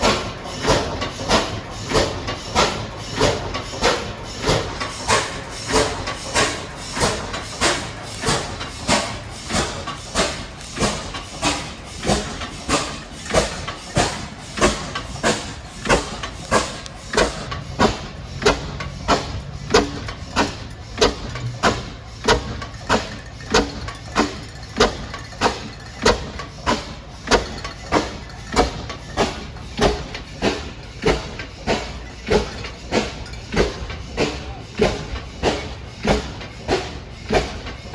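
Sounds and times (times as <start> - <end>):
hissing engine exhaust beats: 0.0 - 37.9.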